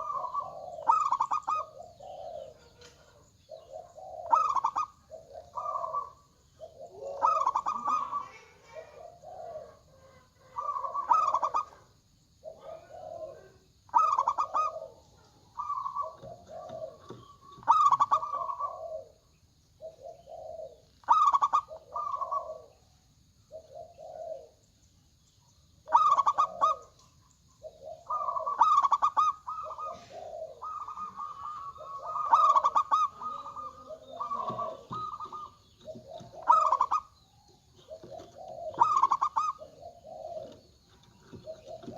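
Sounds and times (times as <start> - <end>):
doves cooing: 0.0 - 24.8, 25.8 - 41.9.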